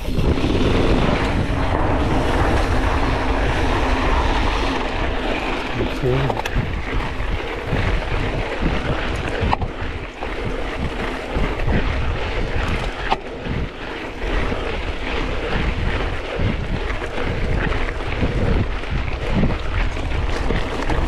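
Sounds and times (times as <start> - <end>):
low rumble from riding: 0.0 - 21.0
wind rushing over microphone: 0.0 - 21.0.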